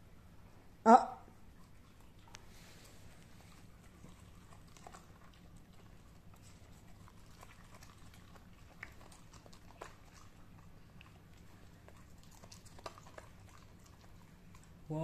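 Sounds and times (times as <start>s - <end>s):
faint low hum: 0.0s - 15.0s
puppy chewing lettuce: 1.3s - 15.0s.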